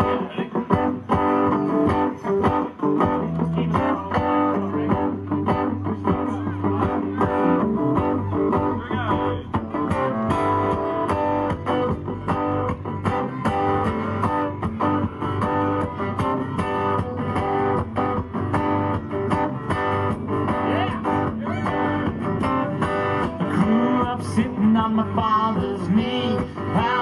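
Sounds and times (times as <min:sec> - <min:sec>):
country band playing: 0:00.0 - 0:27.0.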